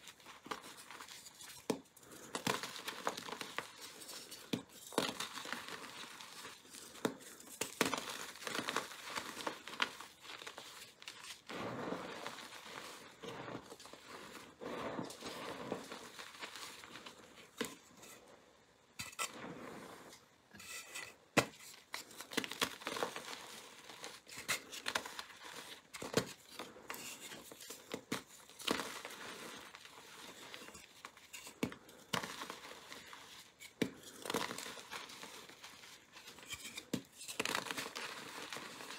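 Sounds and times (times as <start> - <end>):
chalk crunching by hand: 0.1 - 17.9, 21.5 - 38.9.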